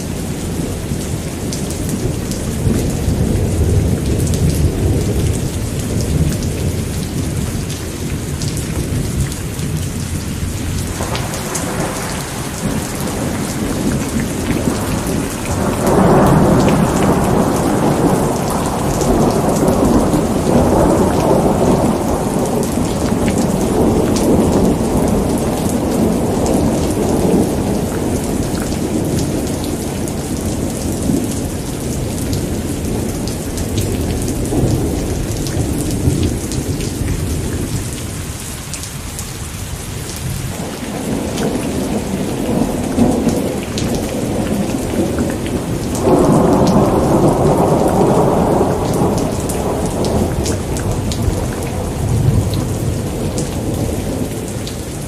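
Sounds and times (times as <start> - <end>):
steady rain: 0.0 - 55.0
rolling thunder: 0.4 - 55.0.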